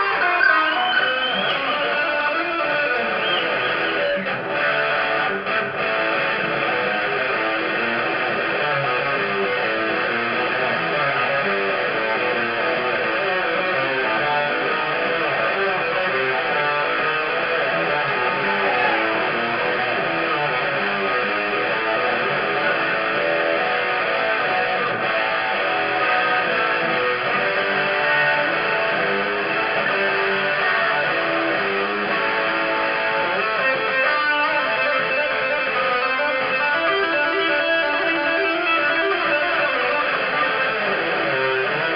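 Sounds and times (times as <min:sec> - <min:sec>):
rock music with electric guitar: 0:00.0 - 0:41.9.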